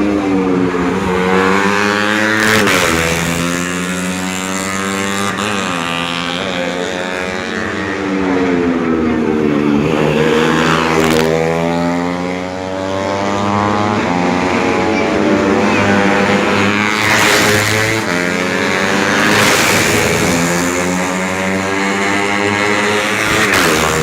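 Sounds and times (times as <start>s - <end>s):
racing motorcycles at high revs: 0.0s - 24.0s.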